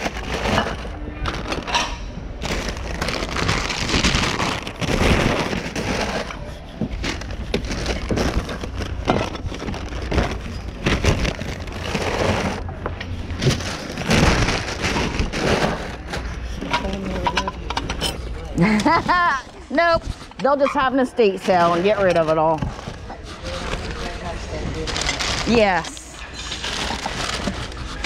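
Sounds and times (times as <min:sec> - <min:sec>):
goods clattering and rustling: 0:00.0 - 0:28.0.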